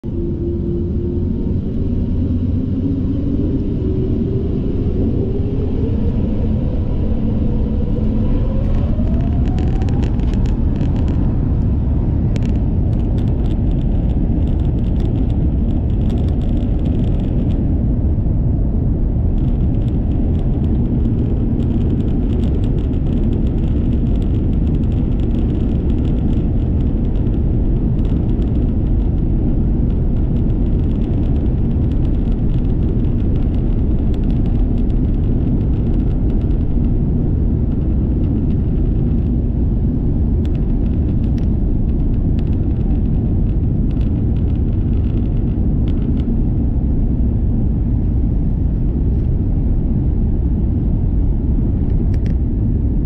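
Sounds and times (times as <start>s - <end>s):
jet engines whining and rumbling: 0.0s - 53.0s.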